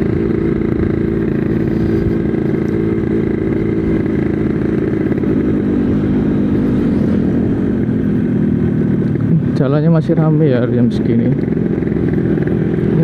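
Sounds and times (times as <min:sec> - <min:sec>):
two-stroke motorcycle engine cruising: 0:00.0 - 0:13.0.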